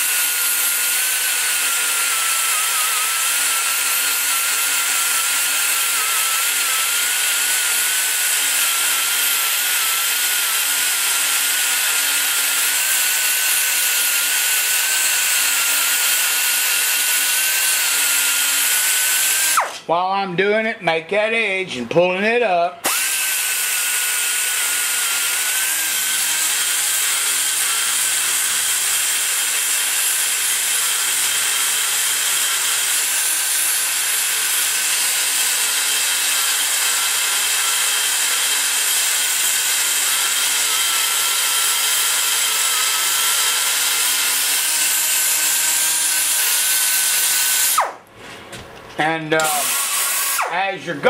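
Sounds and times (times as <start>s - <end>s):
die grinder grinding metal: 0.0s - 19.9s, 22.8s - 48.1s, 49.0s - 51.0s.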